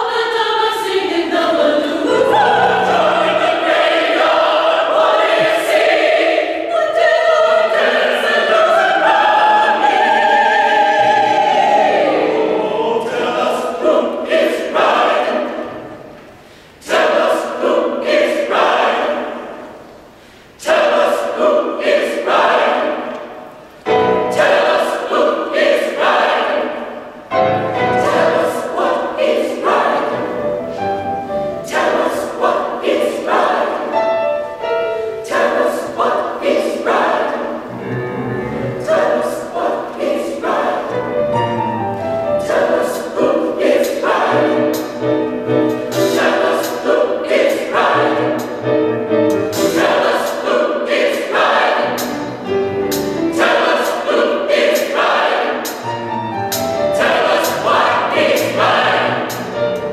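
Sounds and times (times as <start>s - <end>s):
choir singing gospel song: 0.0s - 59.9s.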